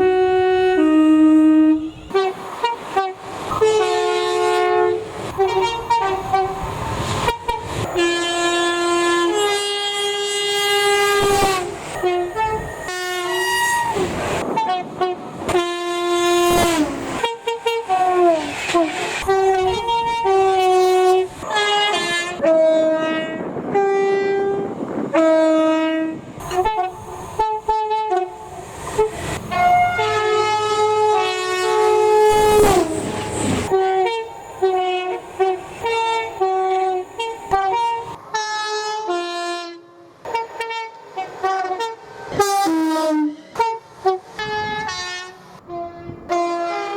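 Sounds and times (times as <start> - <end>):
two-tone train horn blasts: 0.0 - 46.9.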